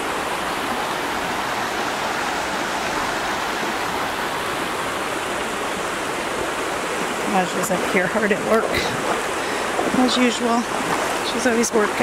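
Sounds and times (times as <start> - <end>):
river flowing over stones: 0.0 - 12.0.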